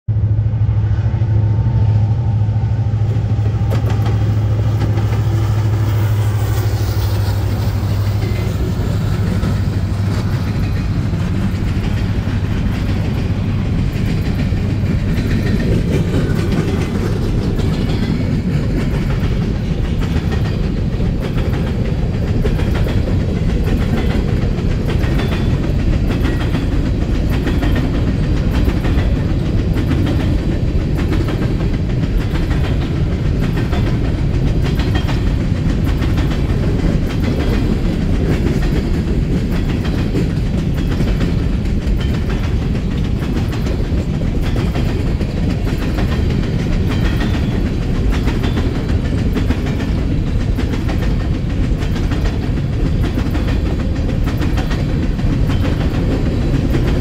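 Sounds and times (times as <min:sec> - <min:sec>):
diesel locomotive engines droning: 0:00.1 - 0:57.0
freight cars rumbling: 0:00.1 - 0:57.0
train wheels clickety-clack: 0:00.9 - 0:57.0.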